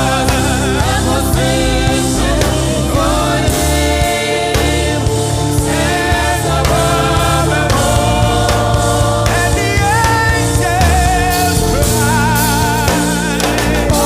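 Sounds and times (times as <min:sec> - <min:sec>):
band playing bass and beat: 0:00.0 - 0:14.0
choir singing: 0:00.0 - 0:14.0.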